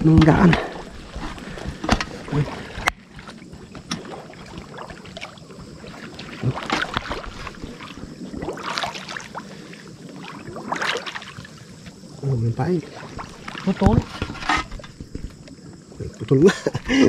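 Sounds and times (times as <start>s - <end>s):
water splashing from wading: 0.0s - 16.8s.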